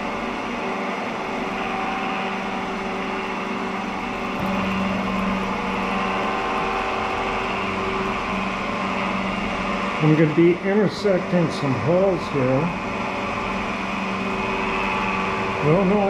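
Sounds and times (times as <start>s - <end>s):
drill press drilling metal: 0.0s - 16.0s
lower steady hum: 0.0s - 16.0s.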